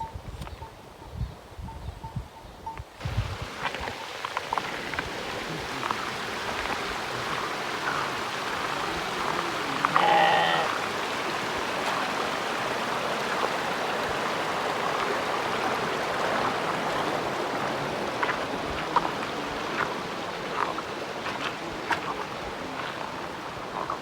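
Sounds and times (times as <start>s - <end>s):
running water rushing: 3.0s - 24.0s.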